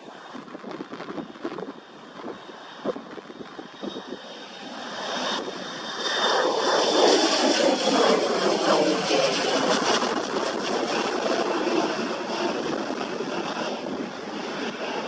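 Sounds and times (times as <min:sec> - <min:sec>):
airplane engine passing: 0:00.0 - 0:15.0
wind buffeting microphone: 0:00.1 - 0:15.0.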